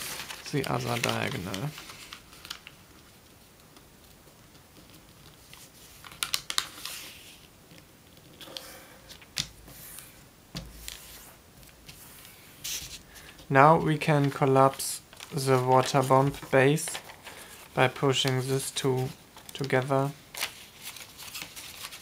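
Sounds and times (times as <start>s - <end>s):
paper rustling and crackling: 0.0s - 22.0s.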